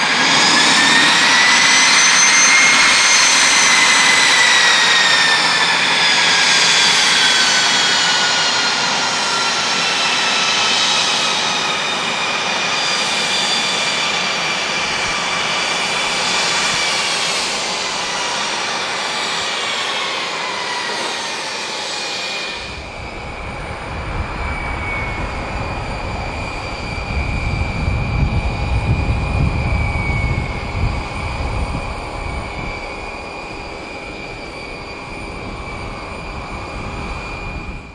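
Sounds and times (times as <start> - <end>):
jet engines spooling down: 0.0 - 37.9.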